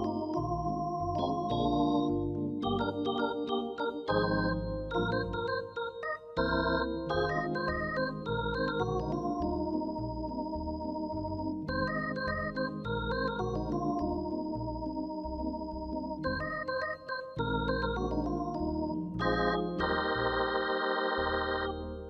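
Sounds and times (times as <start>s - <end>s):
organ music: 0.0s - 22.0s.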